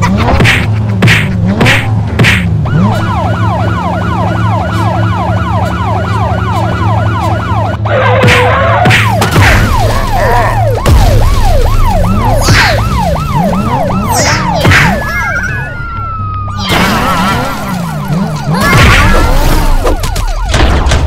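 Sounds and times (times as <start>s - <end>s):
cartoon police siren: 1.4s - 21.0s.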